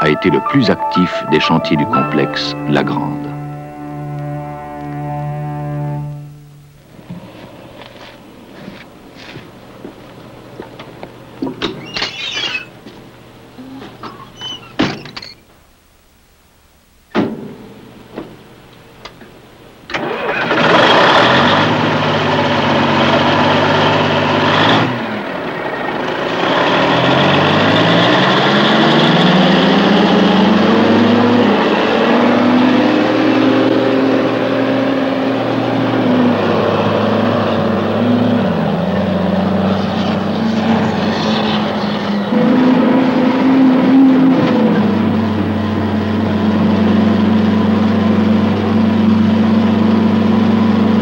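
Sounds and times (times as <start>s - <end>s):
truck diesel engine running: 0.0s - 11.4s, 19.9s - 51.0s.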